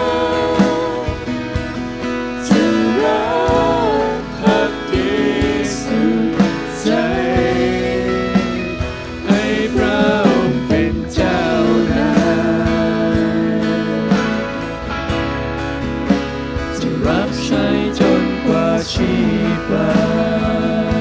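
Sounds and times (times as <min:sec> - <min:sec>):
people singing: 0:00.0 - 0:15.0, 0:16.6 - 0:21.0
acoustic and electric guitars: 0:00.0 - 0:21.0
keyboard: 0:00.0 - 0:21.0.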